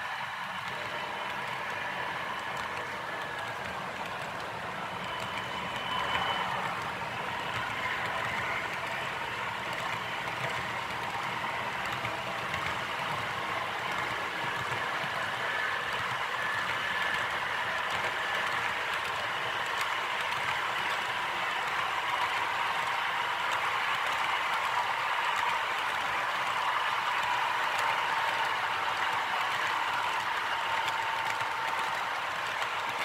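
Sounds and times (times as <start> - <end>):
model train rattling on track: 0.0 - 33.0.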